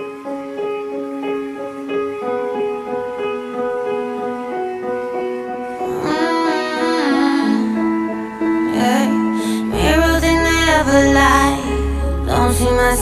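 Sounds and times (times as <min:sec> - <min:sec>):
slow pop ballad keyboard notes: 0:00.0 - 0:13.0.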